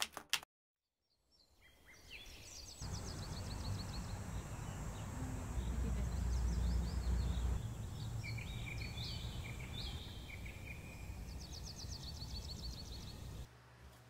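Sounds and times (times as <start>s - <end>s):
small birds chirping: 1.1s - 13.5s.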